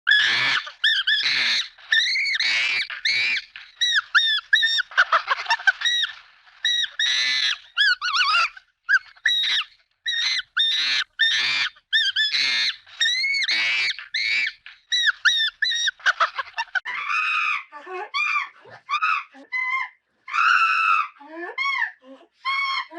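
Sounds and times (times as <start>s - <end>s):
monkey high-pitched calls: 0.1s - 22.9s
monkey screeches: 0.1s - 22.9s.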